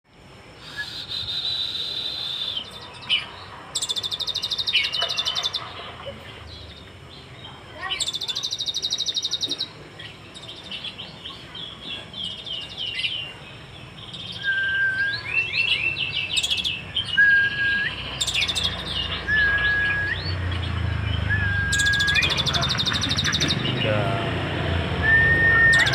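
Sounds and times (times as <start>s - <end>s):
bird singing trills and whistles: 0.6s - 23.9s, 25.0s - 25.9s.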